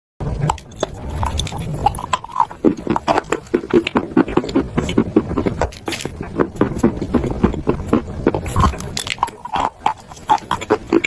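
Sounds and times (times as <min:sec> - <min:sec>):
person chewing chalk crunching: 0:00.4 - 0:11.0.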